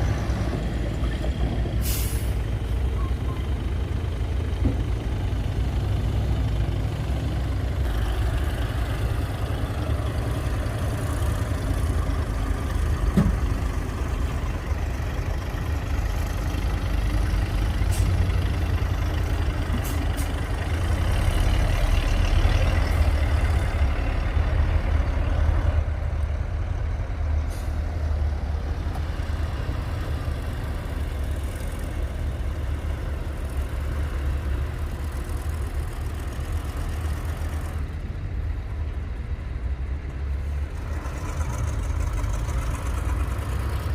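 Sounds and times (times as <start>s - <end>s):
diesel machinery rumbling: 0.0s - 43.9s.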